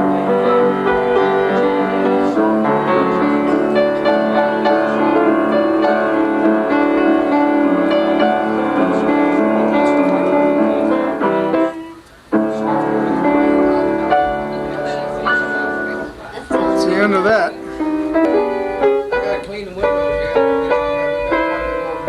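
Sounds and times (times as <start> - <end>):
piano playing chords: 0.0 - 22.0.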